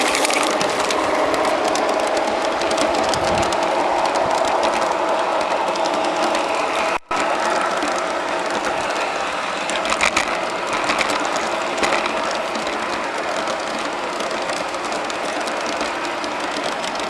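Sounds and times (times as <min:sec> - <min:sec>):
sharp clicks: 0:00.0 - 0:17.0
train wheels rattling on rails: 0:00.0 - 0:17.0.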